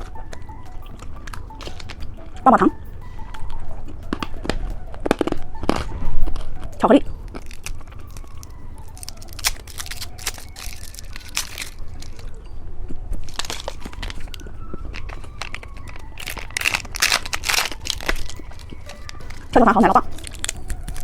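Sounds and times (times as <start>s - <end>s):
plastic wrappers crinkling: 0.0s - 21.0s.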